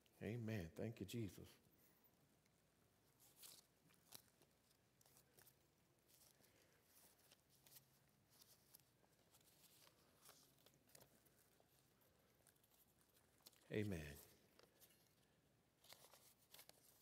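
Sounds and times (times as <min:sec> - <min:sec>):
paper rustling and clicking: 0:03.2 - 0:17.0.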